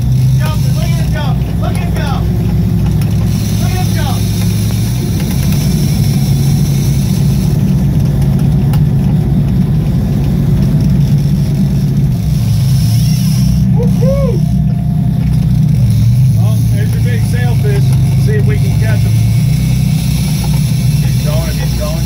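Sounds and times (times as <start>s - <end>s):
boat engine humming: 0.0s - 22.0s
water noise: 0.0s - 22.0s
wind: 0.0s - 22.0s.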